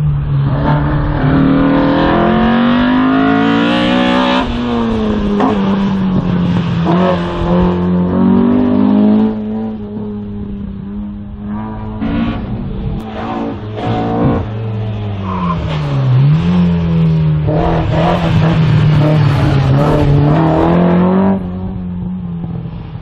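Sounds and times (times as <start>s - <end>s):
race car engine accelerating: 0.0s - 22.9s.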